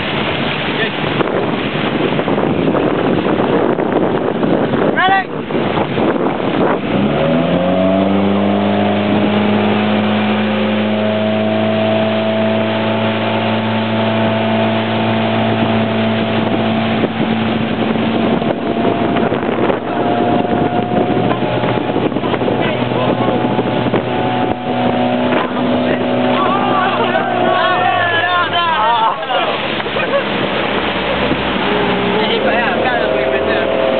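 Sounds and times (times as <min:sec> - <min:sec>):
motorboat engine accelerating: 0:00.0 - 0:33.9
rush of wind and water: 0:00.0 - 0:33.9.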